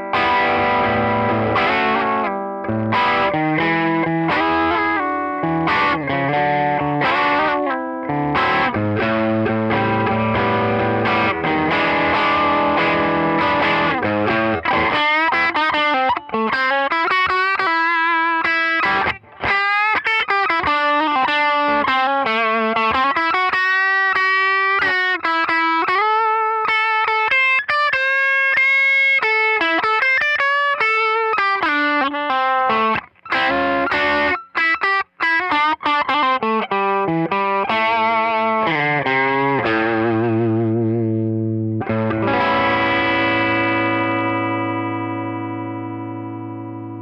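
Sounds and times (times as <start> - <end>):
electric guitar lead lines: 0.0 - 47.0.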